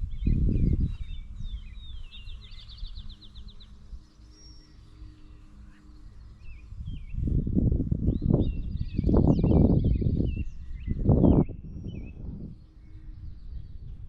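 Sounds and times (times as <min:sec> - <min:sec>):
bird trill: 0:00.0 - 0:07.3, 0:08.1 - 0:13.9
songbirds chirping and whistling: 0:00.0 - 0:14.0
wind rumble on microphone: 0:00.0 - 0:14.0.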